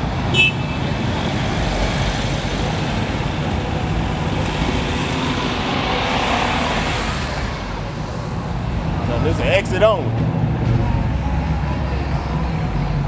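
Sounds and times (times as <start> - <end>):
cars driving past: 0.0 - 13.0
road noise: 0.0 - 13.0.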